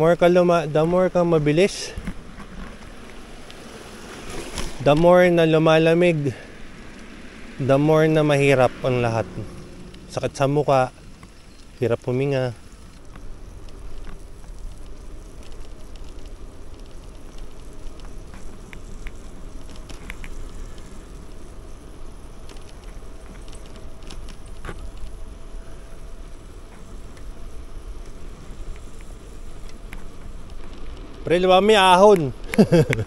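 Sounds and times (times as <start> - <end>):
bicycle tyres rolling hiss: 0.0 - 33.0
small clicks and crackles: 1.6 - 5.0, 9.4 - 33.0.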